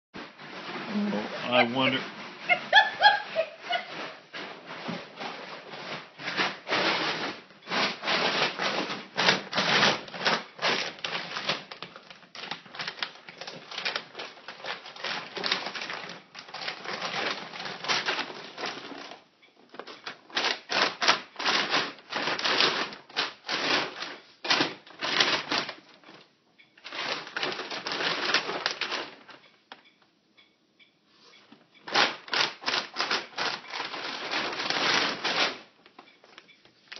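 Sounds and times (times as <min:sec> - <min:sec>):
plastic bag crackling: 0:00.2 - 0:26.2, 0:26.8 - 0:29.4, 0:31.9 - 0:35.8.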